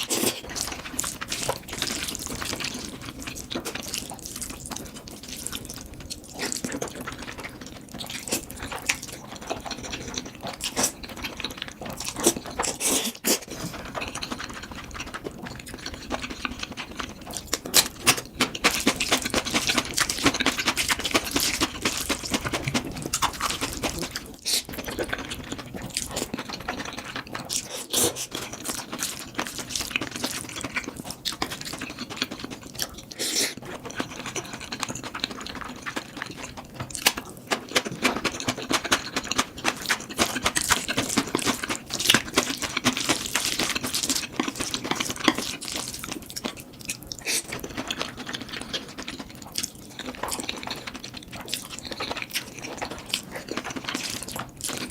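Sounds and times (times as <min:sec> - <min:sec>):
wet chewing of noodles: 0:00.0 - 0:54.9.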